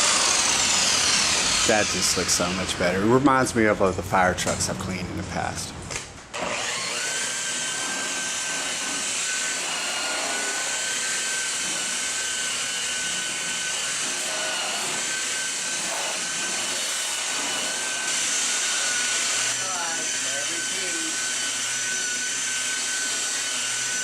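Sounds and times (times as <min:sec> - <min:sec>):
power tool motor whining: 0:00.0 - 0:03.4, 0:06.3 - 0:24.0.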